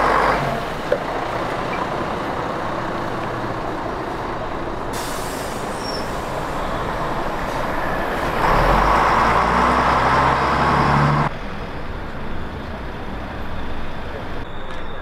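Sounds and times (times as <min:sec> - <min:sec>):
bus pulling away: 0:00.0 - 0:15.0
outdoor background: 0:00.0 - 0:15.0.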